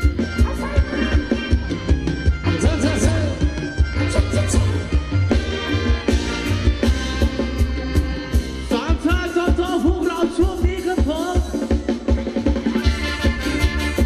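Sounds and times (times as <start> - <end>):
band playing dance music: 0.0 - 14.0
steady drum beat: 0.0 - 14.0.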